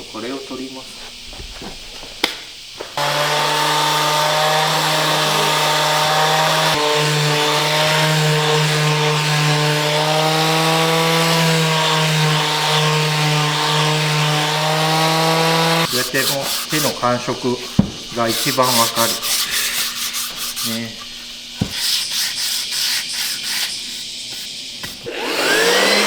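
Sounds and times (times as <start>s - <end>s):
electric sander humming: 3.0s - 26.0s.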